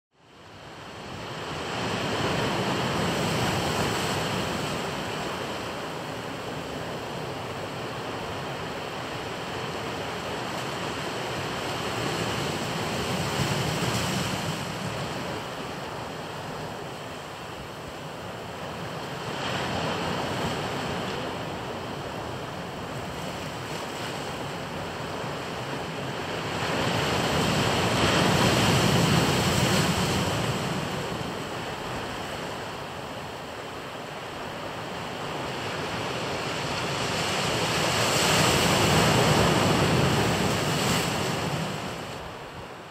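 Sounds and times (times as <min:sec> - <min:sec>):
ocean surf washing in: 0:00.8 - 0:42.9.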